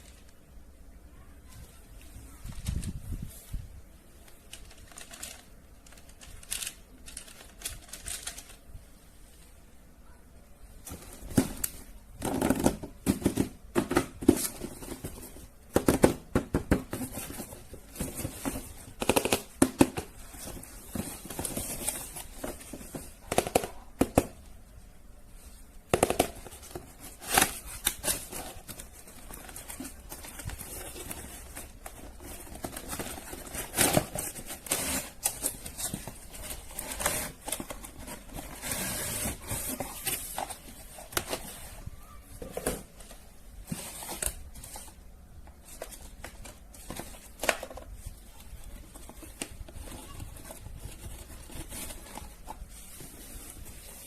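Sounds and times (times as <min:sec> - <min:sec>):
toys and packaging handled: 0:01.6 - 0:03.6, 0:04.2 - 0:08.7, 0:10.8 - 0:24.4, 0:25.4 - 0:54.0.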